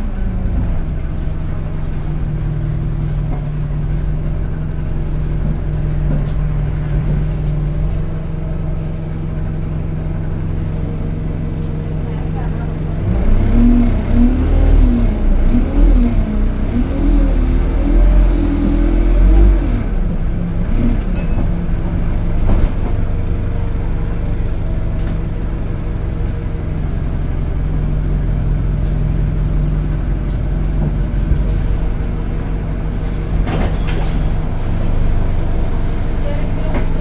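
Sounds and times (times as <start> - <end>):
bus engine rumble: 0.0 - 37.0.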